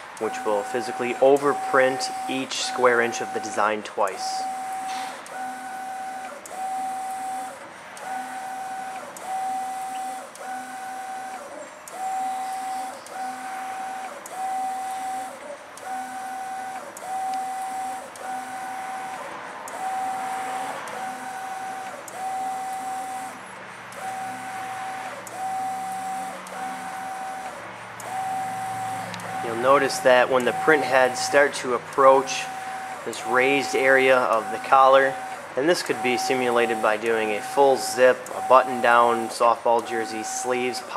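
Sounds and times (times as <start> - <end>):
printer carriage whine: 0.0 - 40.9.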